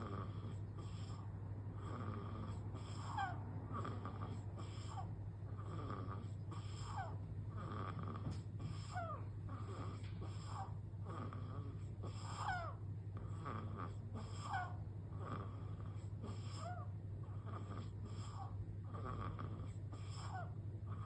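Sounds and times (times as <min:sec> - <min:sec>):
baby snoring softly: 0:00.0 - 0:21.0
steady low hum: 0:00.0 - 0:21.0.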